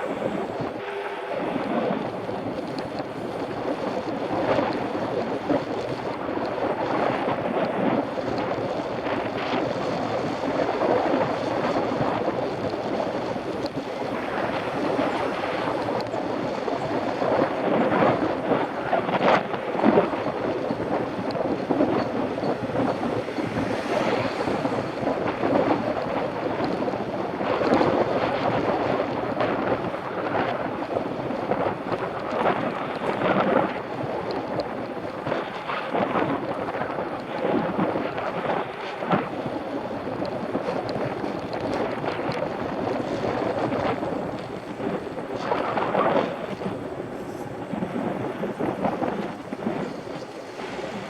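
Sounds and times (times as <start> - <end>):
bike rolling noise: 0.0 - 51.0
wind buffeting microphone: 0.0 - 51.0.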